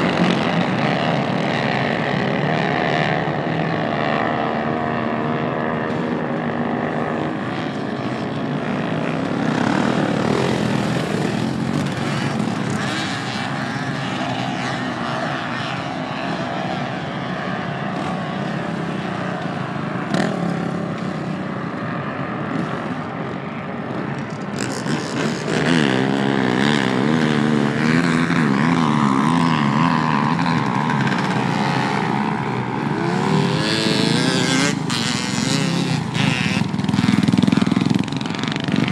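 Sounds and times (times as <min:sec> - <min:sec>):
quad engine rumble: 0:00.0 - 0:38.9.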